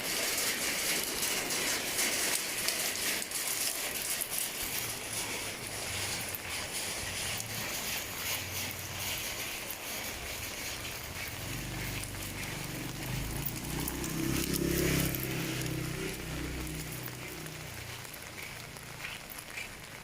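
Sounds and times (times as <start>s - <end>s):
rain falling: 0.0s - 20.0s
vehicle passing by: 1.0s - 20.0s.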